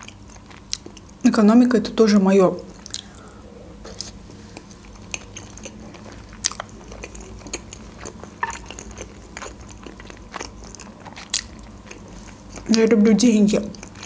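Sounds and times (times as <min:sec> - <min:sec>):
wet chewing mouth sounds: 0:00.0 - 0:01.2, 0:02.7 - 0:12.8.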